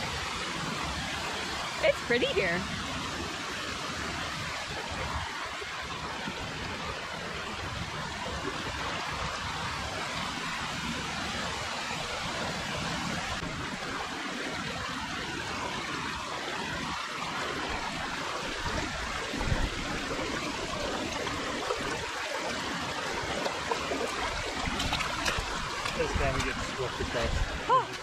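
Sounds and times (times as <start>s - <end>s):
creek rushing over rocks: 0.0s - 28.0s.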